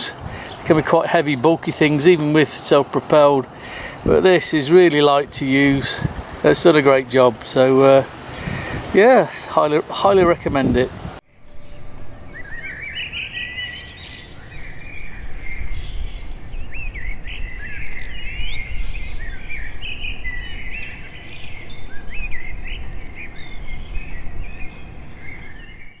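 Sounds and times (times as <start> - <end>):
birds singing and chirping: 0.0 - 26.0.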